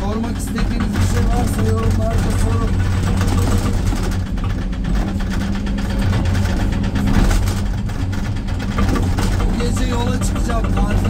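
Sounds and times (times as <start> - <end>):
diesel engine under load: 0.0 - 11.0
hydraulic breaker hammering rock: 0.0 - 11.0.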